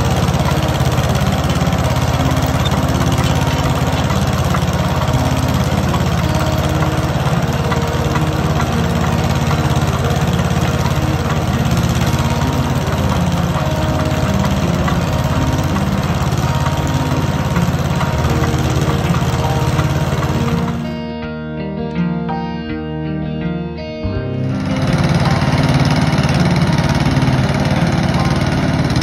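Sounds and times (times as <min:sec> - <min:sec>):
digging chain cutting trench: 0:00.0 - 0:20.9, 0:24.5 - 0:29.0
engine running with low pulse: 0:00.0 - 0:21.0, 0:24.3 - 0:29.0.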